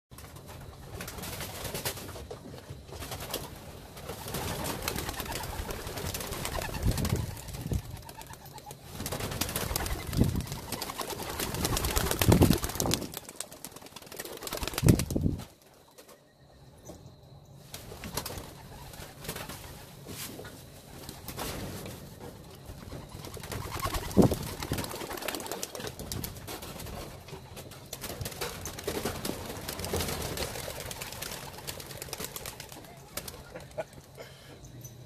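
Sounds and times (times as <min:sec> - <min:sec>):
pigeon wingbeats clattering: 0:00.2 - 0:16.1, 0:17.7 - 0:19.9, 0:20.8 - 0:34.2.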